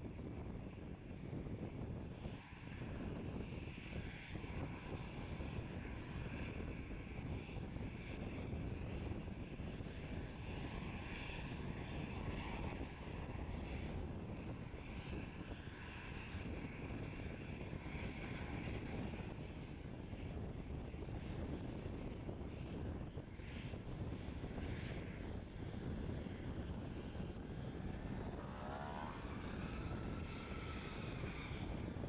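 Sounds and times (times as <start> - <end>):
jet engines rumbling and whining: 0.0 - 32.0.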